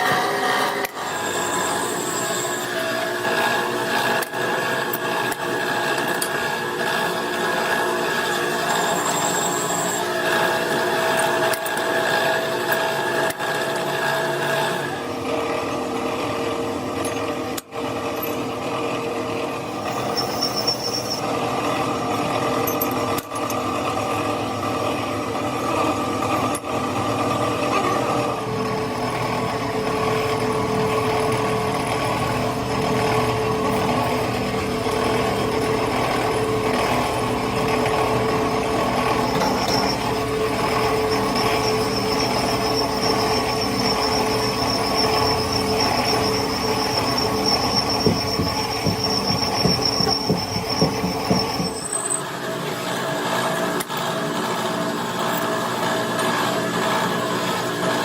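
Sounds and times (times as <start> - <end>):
power tool whining: 0.0 - 15.2, 26.0 - 58.0.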